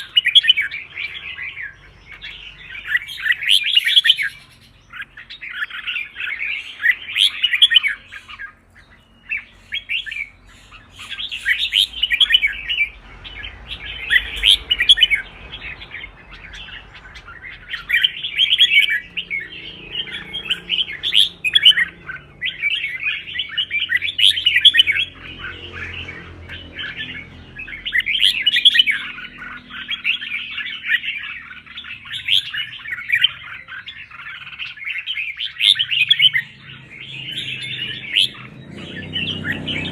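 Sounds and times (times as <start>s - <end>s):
bulbul singing rapid chirping phrases: 0.0s - 39.9s.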